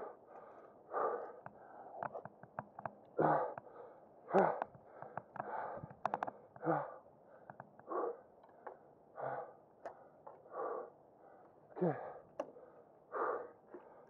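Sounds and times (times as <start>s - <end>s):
man breathing hard: 0.0s - 2.2s, 3.2s - 14.0s.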